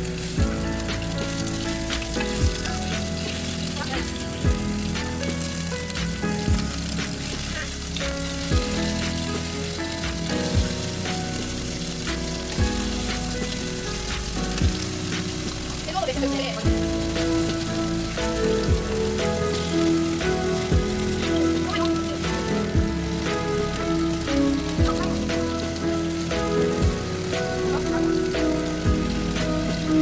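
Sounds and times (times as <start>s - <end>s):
background music with low thump: 0.0s - 30.0s
food sizzling in a pan: 0.0s - 30.0s.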